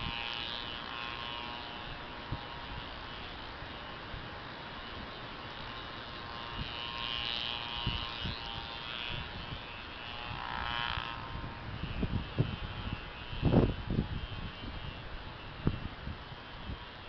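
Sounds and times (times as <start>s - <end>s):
steady buzzing: 0.0s - 17.0s.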